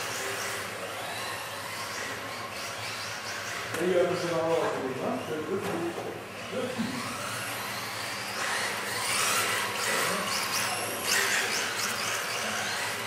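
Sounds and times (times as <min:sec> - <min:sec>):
model car motors whining: 0:00.0 - 0:13.0.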